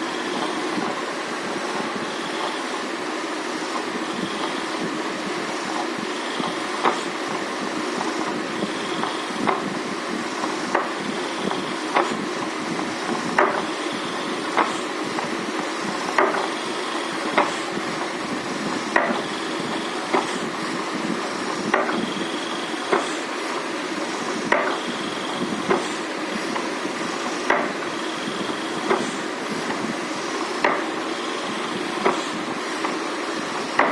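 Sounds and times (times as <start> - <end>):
gear motor running: 0.0 - 33.9.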